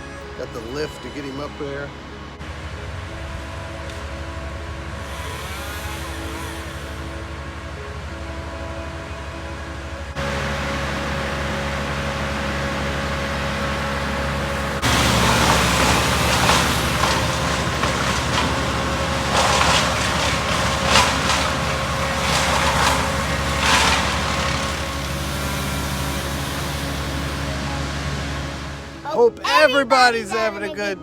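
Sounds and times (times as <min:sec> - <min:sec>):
vehicle engine running: 0:00.0 - 0:29.2
traffic noise: 0:00.0 - 0:29.4.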